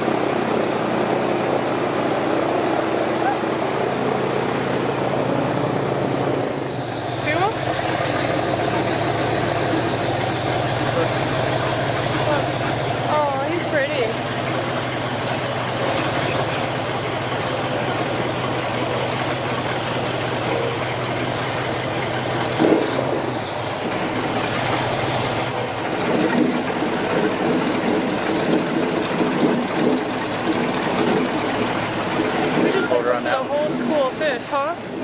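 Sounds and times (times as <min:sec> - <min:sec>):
airboat engine and propeller: 0:00.0 - 0:35.0.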